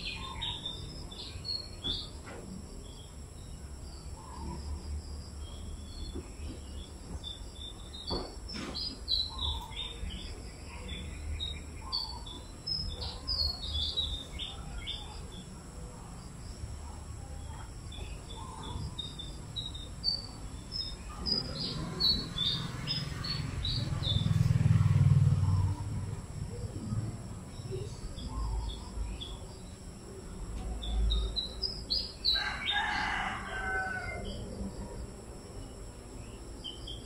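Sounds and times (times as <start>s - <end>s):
birds chirping: 0.0s - 37.0s
insects droning: 0.0s - 37.0s.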